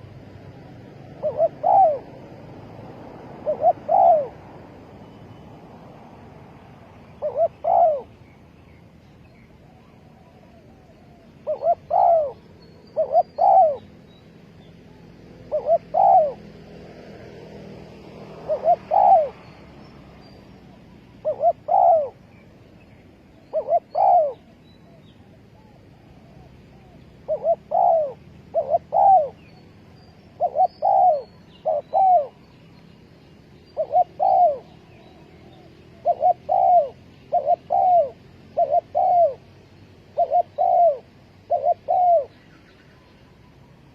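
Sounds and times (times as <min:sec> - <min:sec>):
dove cooing: 0:00.0 - 0:04.6, 0:07.1 - 0:08.3, 0:09.6 - 0:14.0, 0:14.8 - 0:19.6, 0:20.7 - 0:22.5, 0:23.3 - 0:32.5, 0:33.6 - 0:42.9
small birds chirping: 0:00.0 - 0:43.9.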